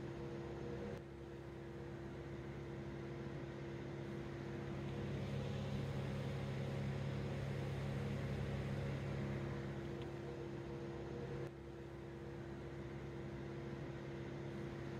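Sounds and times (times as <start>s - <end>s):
low mechanical hum: 0.0s - 14.9s.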